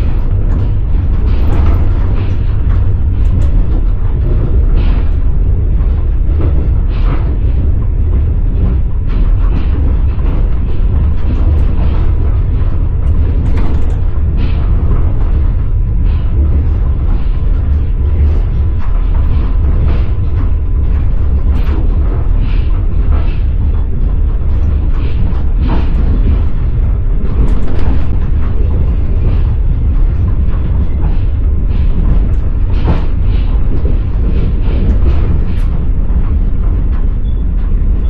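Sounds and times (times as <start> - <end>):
train wheels clattering on rails: 0.0 - 38.0.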